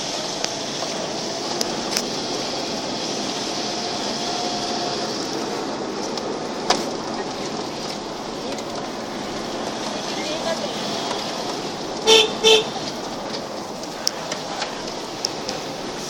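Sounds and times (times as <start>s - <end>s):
road and engine noise in car: 0.0s - 16.0s.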